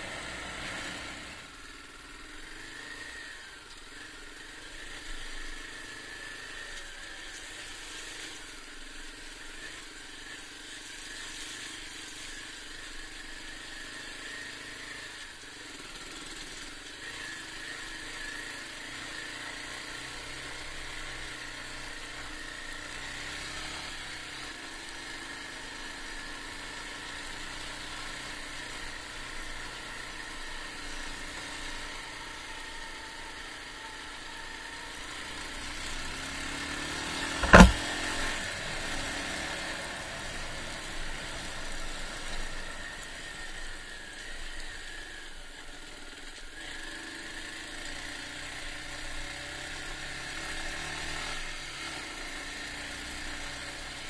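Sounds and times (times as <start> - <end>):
motorcycle engine running: 0.0 - 45.2.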